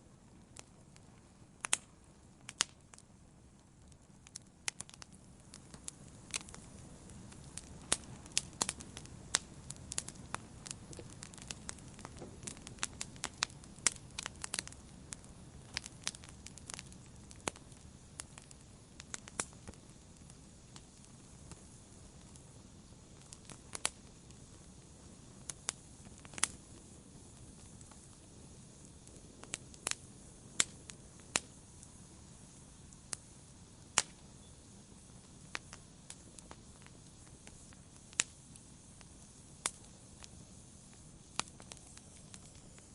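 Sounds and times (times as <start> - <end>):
campfire crackling and popping: 0.0 - 42.9
low rush of flame: 0.0 - 42.9.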